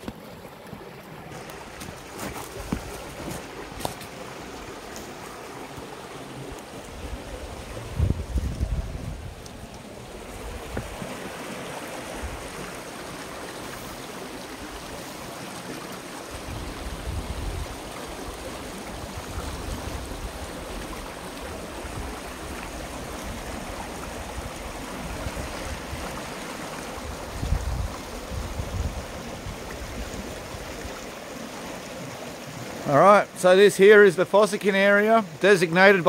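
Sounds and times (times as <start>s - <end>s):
river rippling over rocks: 0.0s - 36.0s.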